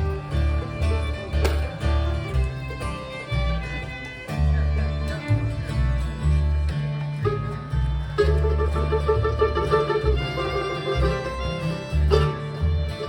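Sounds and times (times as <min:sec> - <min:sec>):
fiddle playing: 0:00.0 - 0:13.0
low bass line: 0:00.0 - 0:13.0
strummed guitar: 0:00.0 - 0:13.0.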